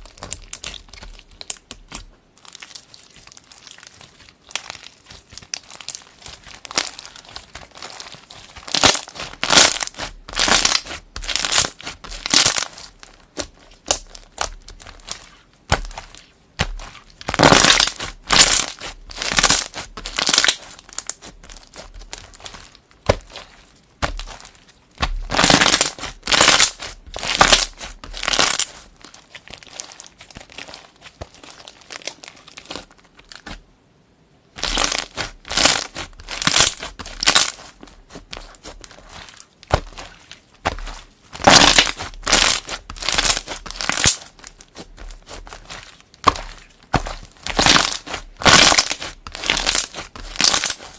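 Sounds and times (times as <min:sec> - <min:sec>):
slime squishing: 0:00.0 - 0:33.6, 0:34.5 - 0:50.9
quiet handling of slime: 0:00.0 - 0:50.9.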